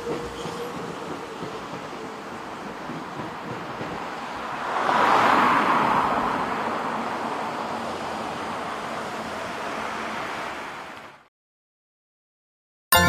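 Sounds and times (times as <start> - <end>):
passing train rumble: 0.0 - 11.3.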